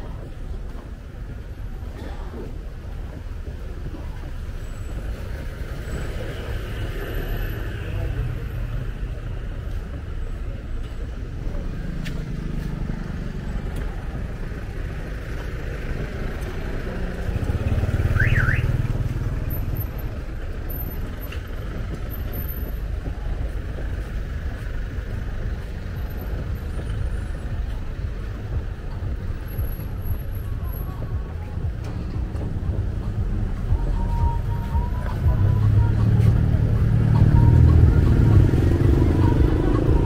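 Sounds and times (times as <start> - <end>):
passing cars and motorbikes: 0.0 - 40.0.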